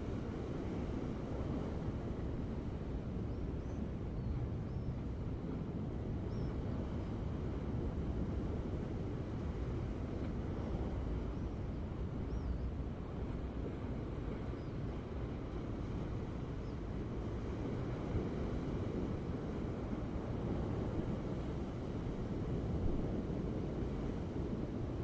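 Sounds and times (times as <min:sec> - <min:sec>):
ocean waves washing: 0:00.0 - 0:12.2, 0:12.8 - 0:25.0
wind buffeting microphone: 0:00.0 - 0:25.0.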